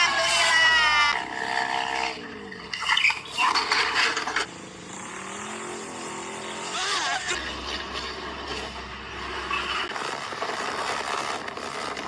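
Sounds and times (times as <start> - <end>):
motorbike engines revving: 0.0 - 12.0.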